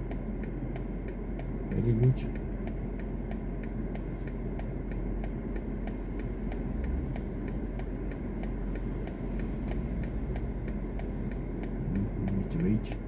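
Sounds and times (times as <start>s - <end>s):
low car cabin rumble: 0.0s - 13.0s
turn signal ticking: 0.0s - 13.0s.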